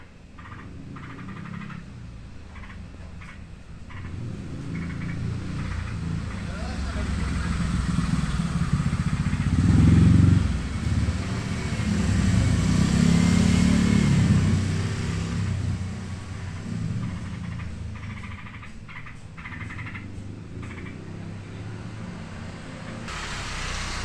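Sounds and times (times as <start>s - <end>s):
motorcycle engine running: 0.4s - 22.1s.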